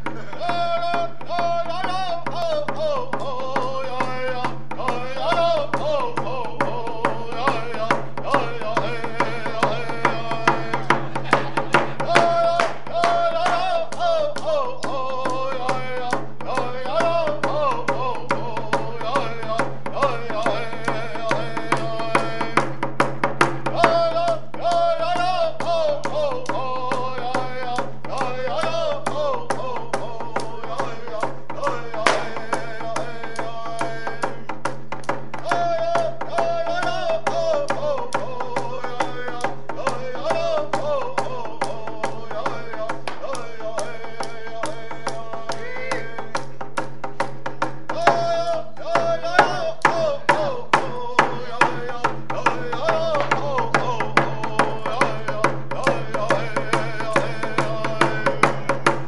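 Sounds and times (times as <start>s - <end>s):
hand drum beat: 0.0s - 59.0s
man singing: 0.0s - 59.0s.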